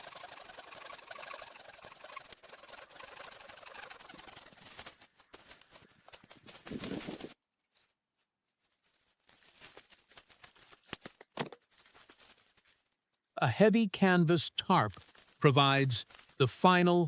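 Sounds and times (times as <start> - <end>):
dry leaves rustling and crackling: 0.2 - 13.2, 14.8 - 16.8.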